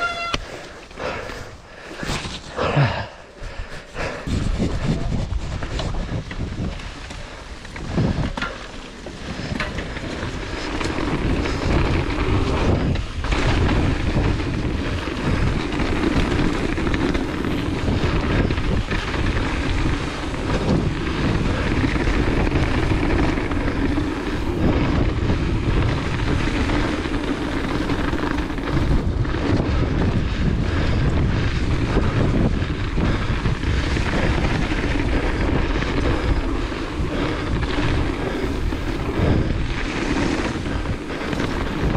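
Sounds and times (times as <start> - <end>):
bike tyres rolling on dirt: 0.0 - 41.9
wind rushing over microphone: 0.0 - 41.9
bike knocks and rattles: 4.3 - 41.9.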